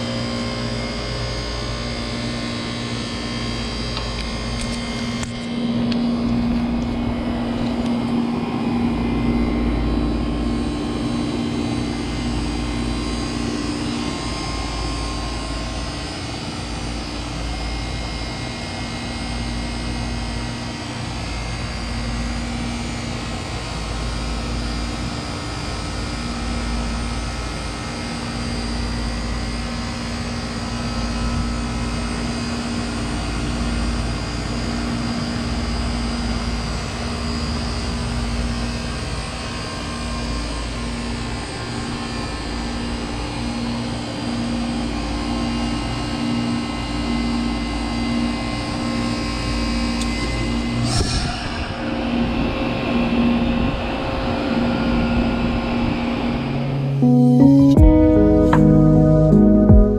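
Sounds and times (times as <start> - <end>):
heat pump unit humming: 0.0 - 57.0.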